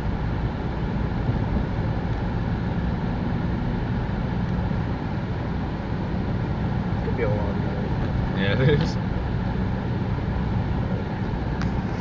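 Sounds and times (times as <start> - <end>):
car driving on snow: 0.0 - 12.0.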